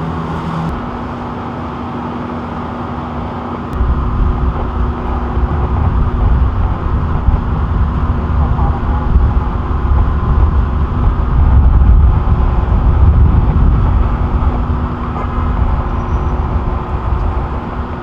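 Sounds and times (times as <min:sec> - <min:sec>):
constant hum: 0:00.0 - 0:18.0
idling vehicle engines: 0:00.0 - 0:18.0
street traffic: 0:00.0 - 0:18.0.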